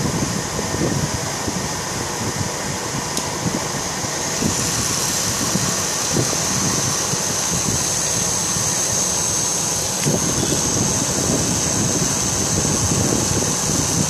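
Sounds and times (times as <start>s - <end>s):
spindle motor high whine: 0.0s - 14.0s.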